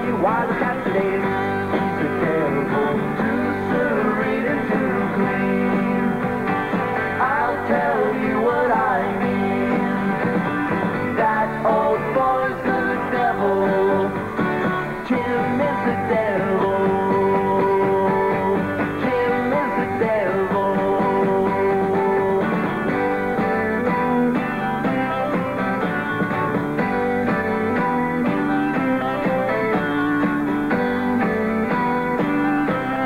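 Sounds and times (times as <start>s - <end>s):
rock song with guitar: 0.0s - 33.0s.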